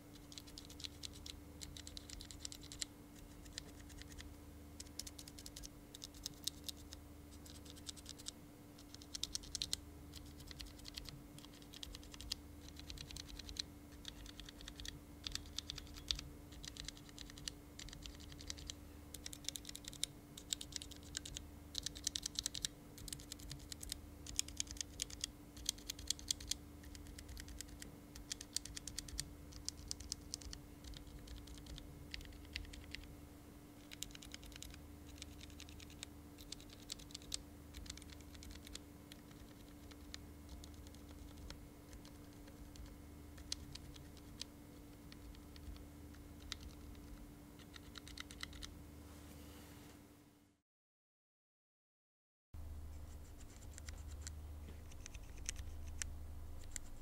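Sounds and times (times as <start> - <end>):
faint steady hum: 0.0 - 50.6, 52.6 - 57.0
mechanical keyboard switches typing: 0.2 - 33.1, 33.8 - 45.8, 46.4 - 48.7, 54.9 - 57.0.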